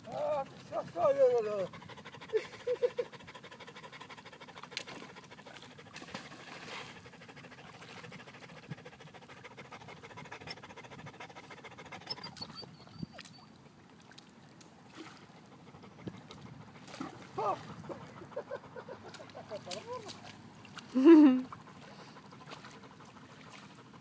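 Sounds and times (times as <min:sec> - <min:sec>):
water lapping at stony shore: 0:00.0 - 0:24.0.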